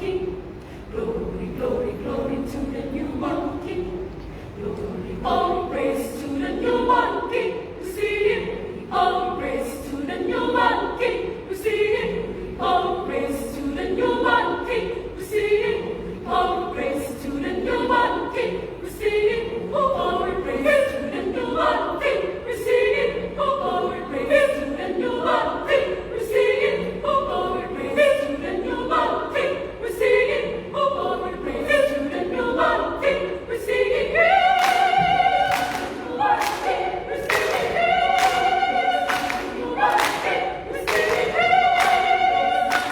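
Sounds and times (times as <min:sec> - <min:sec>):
women's choir singing a cappella: 0:00.0 - 0:42.9.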